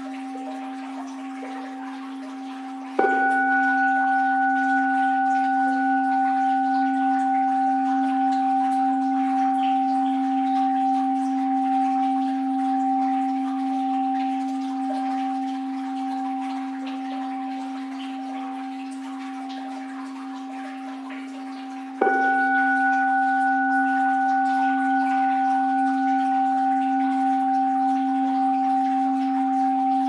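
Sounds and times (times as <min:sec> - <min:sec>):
bowl bell ringing: 0:00.0 - 0:30.0.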